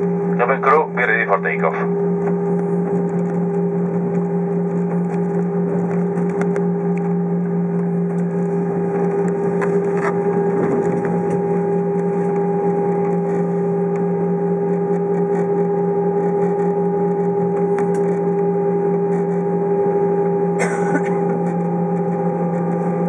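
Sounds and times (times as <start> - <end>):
aircraft engines idling: 0.0 - 23.0.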